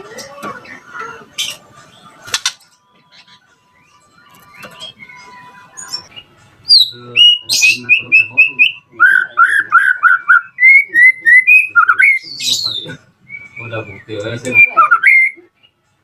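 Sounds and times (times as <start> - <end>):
bird singing: 0.5 - 15.8.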